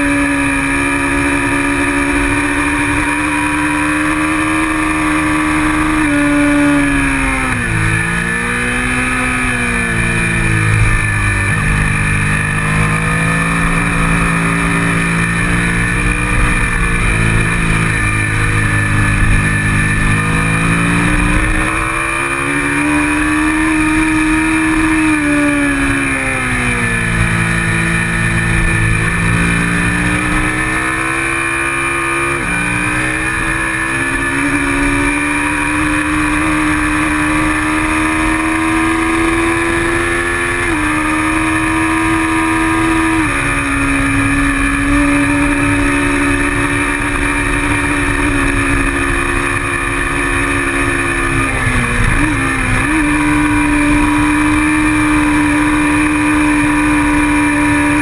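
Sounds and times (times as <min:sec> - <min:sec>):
motorcycle engine at race pace: 0:00.0 - 0:58.0.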